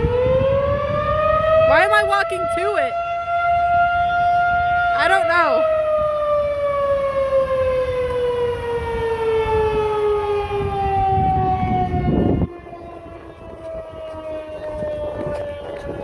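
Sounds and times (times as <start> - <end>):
warning siren winding down: 0.0 - 16.0.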